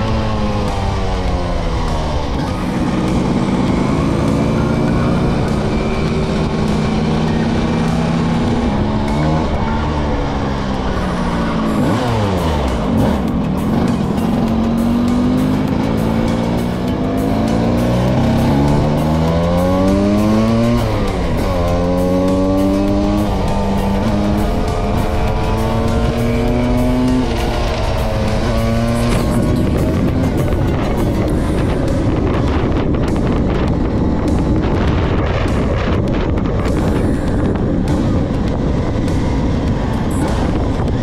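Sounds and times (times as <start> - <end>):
second engine passing: 0.0 - 41.0
two-stroke engine accelerating: 0.0 - 41.0.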